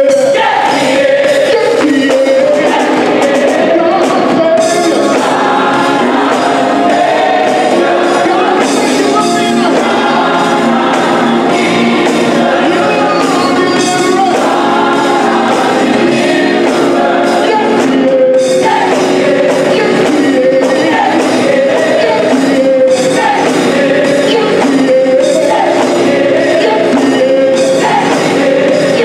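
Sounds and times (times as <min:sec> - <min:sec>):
choir singing in harmony: 0:00.0 - 0:29.0
drum kit: 0:00.0 - 0:29.0
organ: 0:00.0 - 0:29.0
electric bass guitar: 0:02.7 - 0:29.0.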